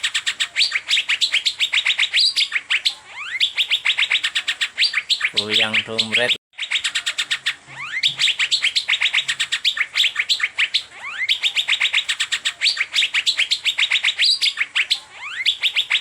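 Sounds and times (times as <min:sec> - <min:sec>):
bird rapid chattering chirps: 0:00.0 - 0:16.0.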